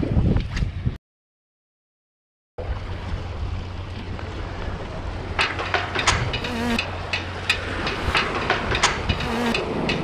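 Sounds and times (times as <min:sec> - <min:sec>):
wind rumbling on microphone: 0:00.0 - 0:01.0, 0:02.6 - 0:10.0.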